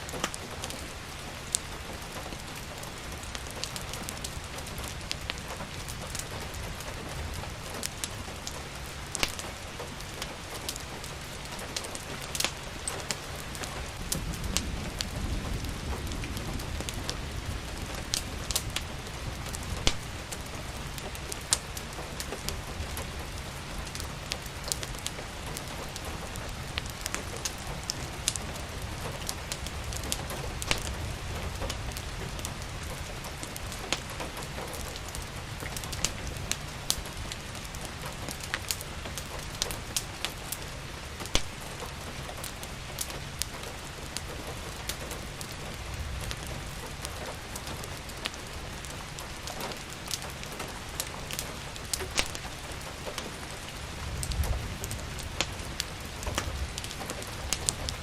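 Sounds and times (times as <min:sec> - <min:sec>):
steady rain: 0:00.0 - 0:58.0
wood fire popping and crackling: 0:00.0 - 0:58.0.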